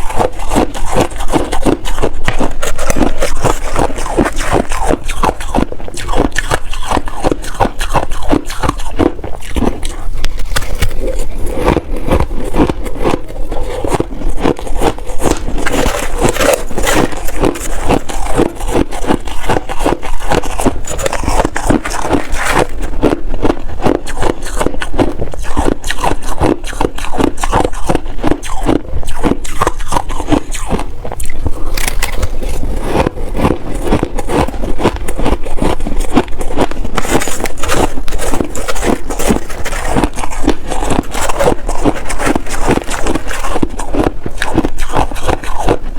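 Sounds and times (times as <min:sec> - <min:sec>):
person chewing shaved ice: 0:00.0 - 0:45.9.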